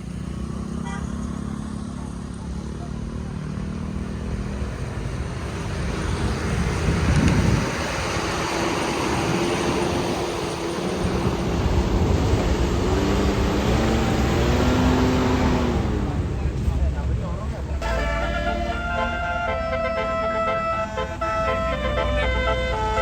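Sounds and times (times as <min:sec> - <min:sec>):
large vehicle engines running: 0:00.0 - 0:23.0
road traffic noise: 0:00.0 - 0:23.0.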